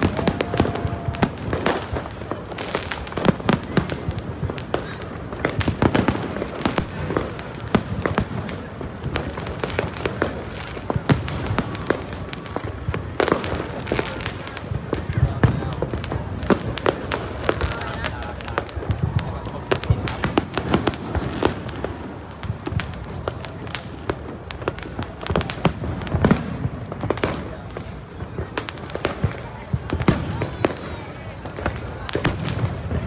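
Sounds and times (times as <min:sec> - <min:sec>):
fireworks banging and crackling: 0:00.0 - 0:33.0.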